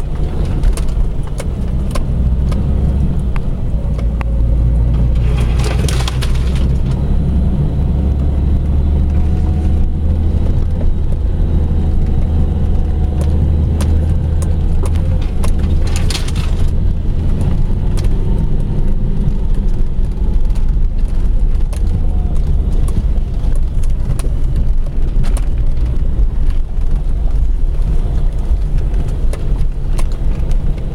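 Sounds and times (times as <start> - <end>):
engine and tyre rumble: 0.0 - 30.9
vehicle knocks and rattles: 0.0 - 30.9.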